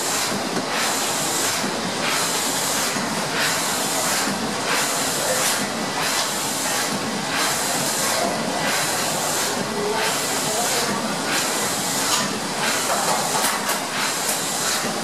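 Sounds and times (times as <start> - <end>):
steam engine hissing rhythmically: 0.0 - 15.0.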